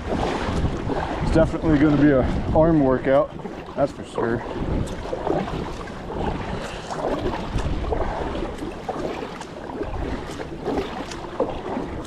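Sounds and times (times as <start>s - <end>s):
kayak paddle splashing: 0.0s - 12.0s
wind buffeting microphone: 0.0s - 12.0s.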